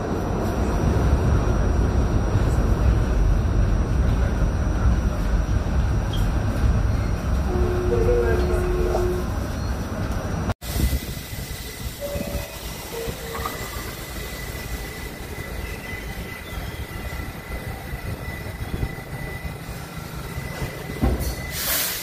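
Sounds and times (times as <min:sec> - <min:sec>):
subway train low rumble: 0:00.0 - 0:22.0.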